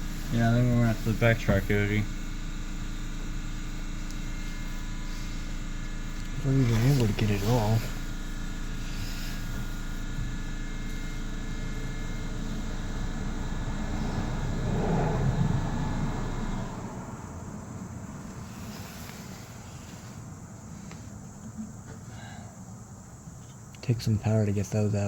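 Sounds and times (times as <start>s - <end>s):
engine-like rumble: 0.0s - 22.4s
faint hum: 0.0s - 25.0s.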